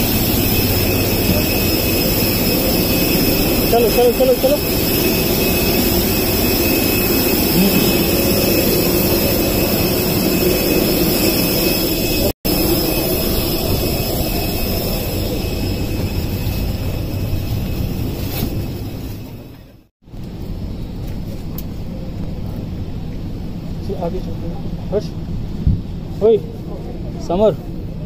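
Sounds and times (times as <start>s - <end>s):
high whine: 0.0s - 25.6s
jet turbines roaring: 0.0s - 28.0s.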